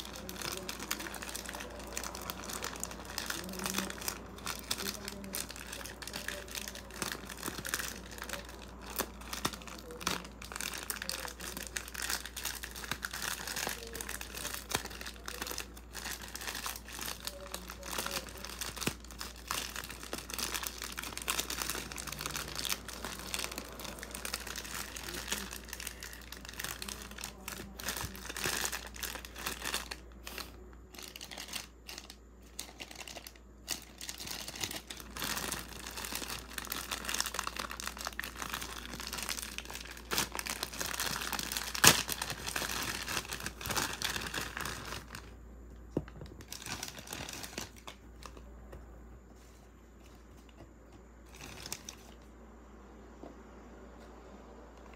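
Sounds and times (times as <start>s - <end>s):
plastic bags crinkling: 0.0s - 45.4s, 46.0s - 48.4s, 51.2s - 52.2s.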